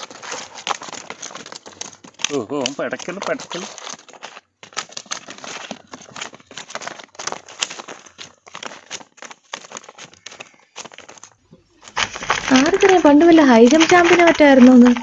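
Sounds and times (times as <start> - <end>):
fish flapping in plastic basket: 0.0 - 15.0.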